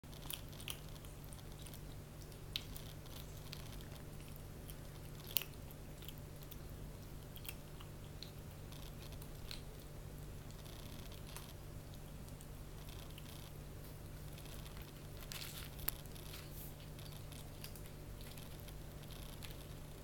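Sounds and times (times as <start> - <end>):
kitten chewing dry kibble: 0.0 - 20.0
steady low hum: 0.0 - 20.0.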